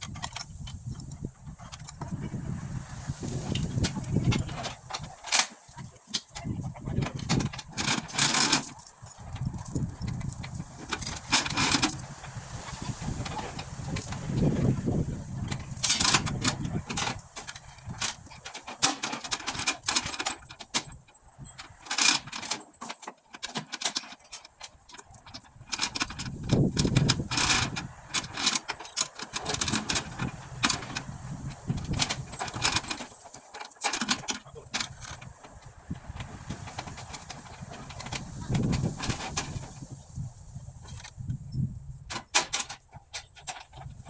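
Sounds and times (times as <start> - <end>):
clicks clinks and knocks: 0.0 - 2.1, 3.6 - 35.5, 40.8 - 44.0.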